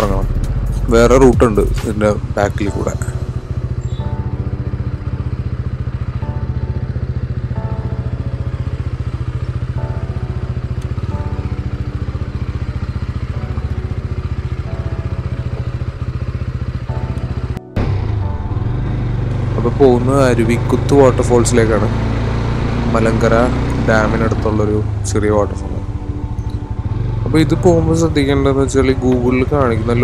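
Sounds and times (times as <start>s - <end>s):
motorcycle engine at low revs: 0.0s - 30.0s.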